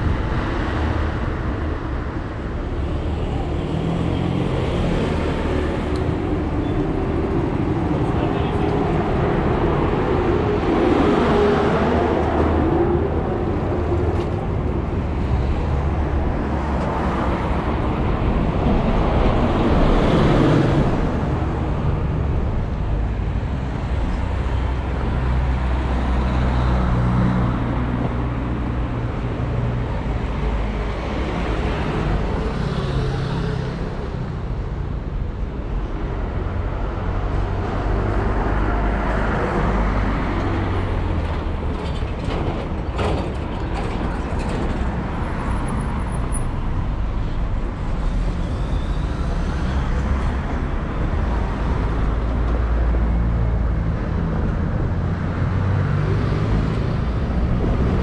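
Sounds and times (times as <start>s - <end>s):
low rumble of engines: 0.0s - 58.0s.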